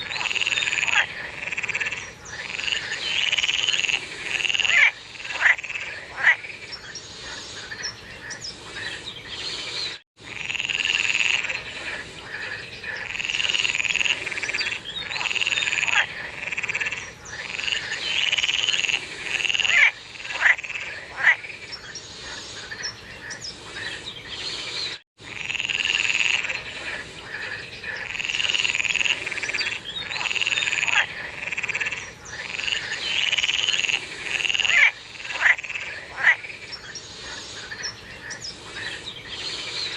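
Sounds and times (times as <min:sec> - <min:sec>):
chorus of frogs croaking: 0:00.0 - 0:09.6, 0:10.2 - 0:24.5, 0:25.2 - 0:39.9.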